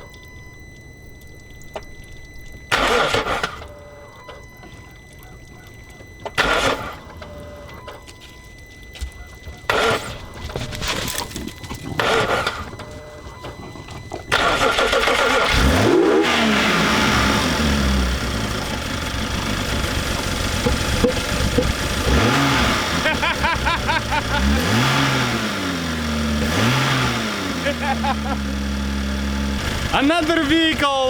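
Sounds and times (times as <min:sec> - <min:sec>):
car engine starting and revving: 0:01.7 - 0:04.7, 0:06.0 - 0:08.1, 0:09.7 - 0:31.0.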